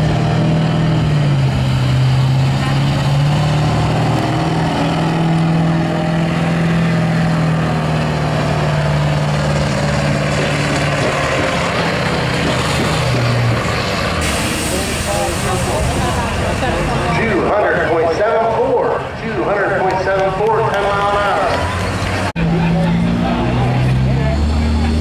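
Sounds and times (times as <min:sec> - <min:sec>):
pulling truck engine revving hard: 0:00.0 - 0:25.0.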